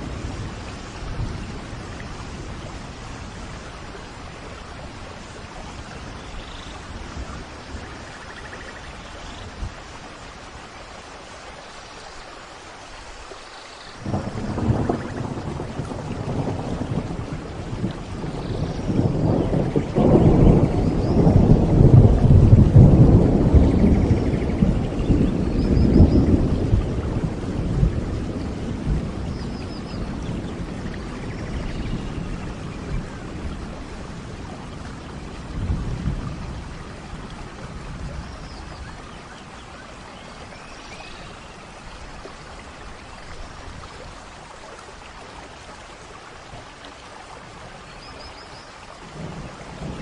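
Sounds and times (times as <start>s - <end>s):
rolling thunder rumble: 0.0s - 9.8s, 14.0s - 44.3s, 49.1s - 50.0s
steady rain: 0.0s - 50.0s.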